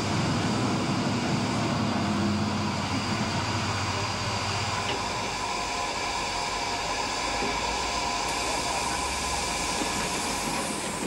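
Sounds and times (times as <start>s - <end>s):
steam hissing from locomotive: 0.0s - 11.0s.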